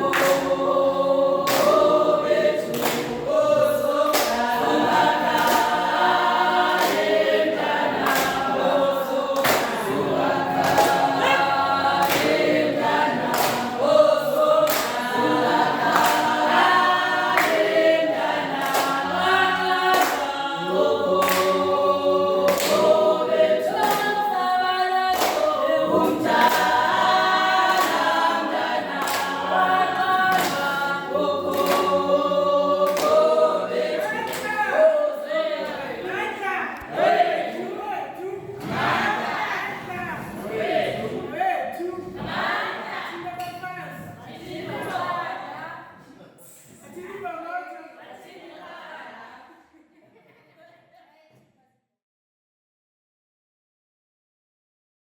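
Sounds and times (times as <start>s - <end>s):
choir singing a cappella gospel: 0.0s - 50.0s.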